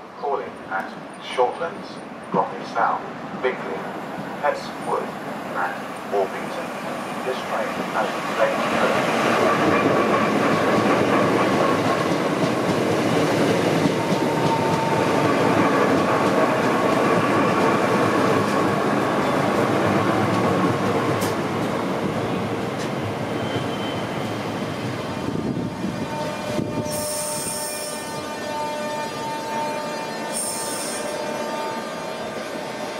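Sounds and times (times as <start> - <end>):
train wheels rumbling: 4.1 - 32.9.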